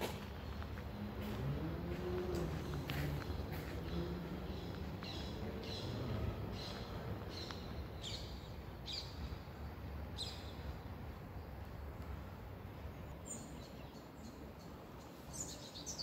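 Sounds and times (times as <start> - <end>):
faint low background noise: 0.0 - 16.0.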